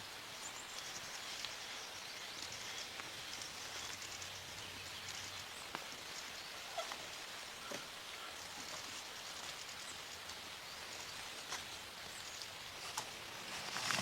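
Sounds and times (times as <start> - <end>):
soft steady hiss: 0.0 - 14.0
small ticks: 0.5 - 14.0.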